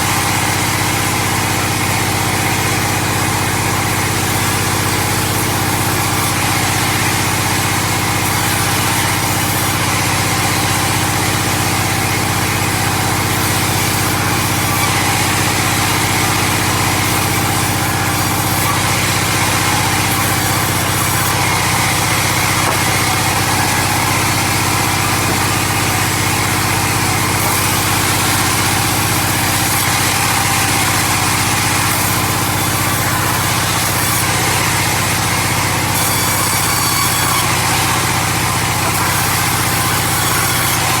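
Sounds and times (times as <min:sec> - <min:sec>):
sawmill engine running: 0:00.0 - 0:41.0.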